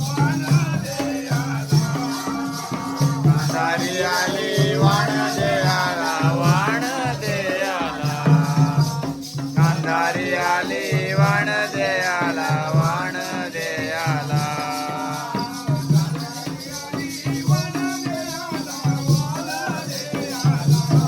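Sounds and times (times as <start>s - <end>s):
hand drum beat: 0.0s - 21.0s
high jingling percussion: 0.0s - 21.0s.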